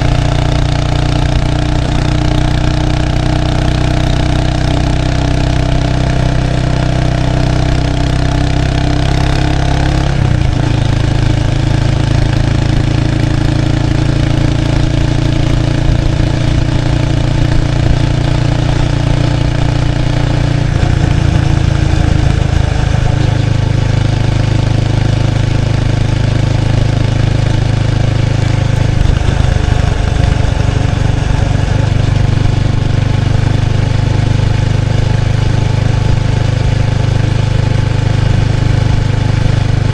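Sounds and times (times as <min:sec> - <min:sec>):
motorcycle engine exhaust: 0:00.0 - 0:39.9.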